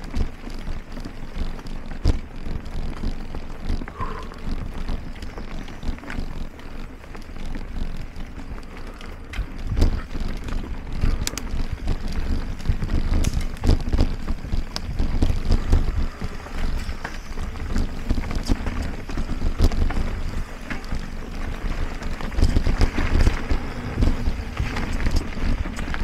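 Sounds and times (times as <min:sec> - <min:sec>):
bike clicks and rattles: 0:00.0 - 0:26.0
bike rolling over dirt trail: 0:00.0 - 0:26.0
wind buffeting microphone: 0:03.7 - 0:26.0.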